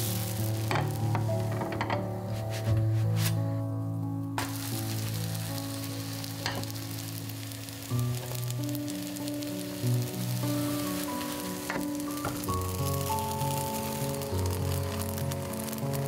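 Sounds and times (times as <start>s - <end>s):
pancake sizzling in oil: 0.0s - 1.5s, 4.4s - 16.0s
background music: 0.0s - 16.0s.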